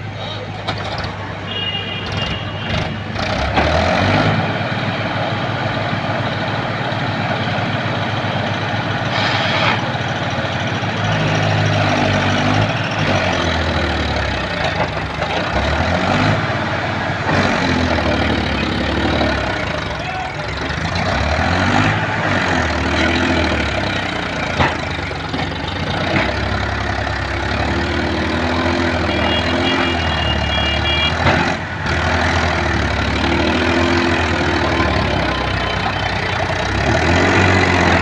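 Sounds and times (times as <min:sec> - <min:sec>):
heavy diesel engine revving: 0:02.1 - 0:38.0.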